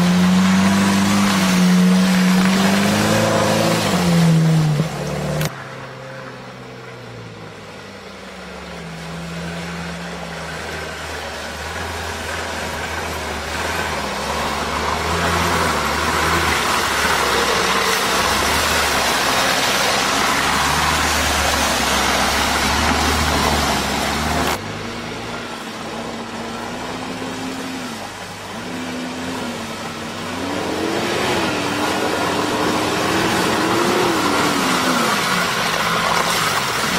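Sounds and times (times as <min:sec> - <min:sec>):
off-road vehicle engine running: 0:00.0 - 0:36.9.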